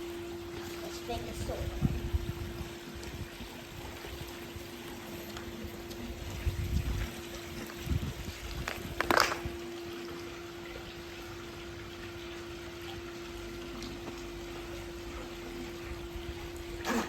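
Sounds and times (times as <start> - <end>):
steady electric hum: 0.0 - 17.0
water trickling and splashing: 0.0 - 17.0.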